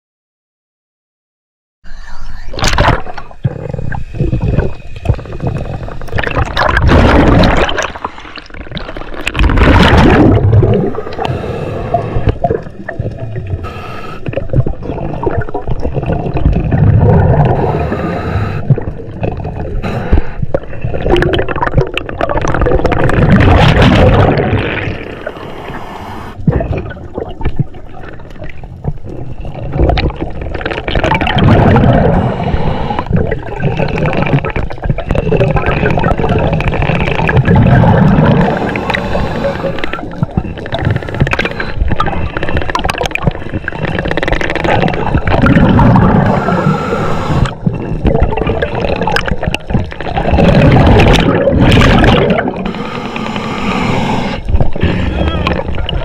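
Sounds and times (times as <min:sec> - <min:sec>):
underwater water rushing and gurgling: 0:02.5 - 0:56.0.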